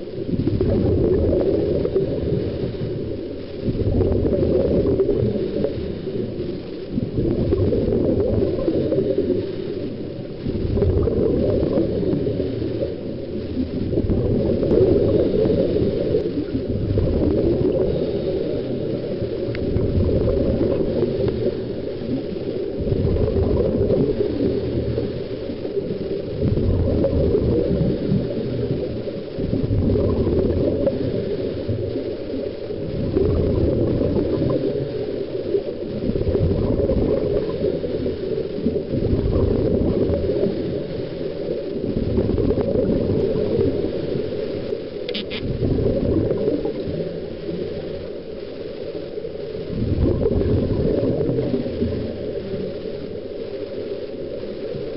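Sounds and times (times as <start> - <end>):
underwater bubbles gurgling: 0.0 - 54.9.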